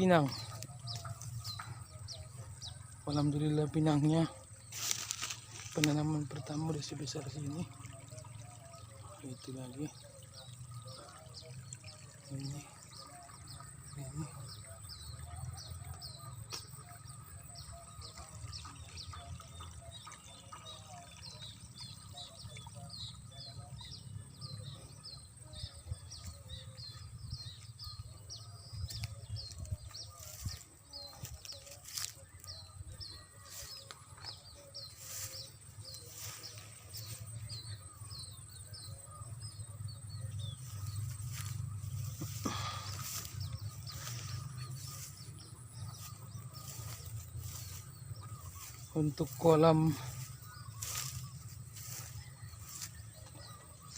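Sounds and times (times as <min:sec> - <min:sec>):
bird chirping: 0:07.5 - 0:53.9.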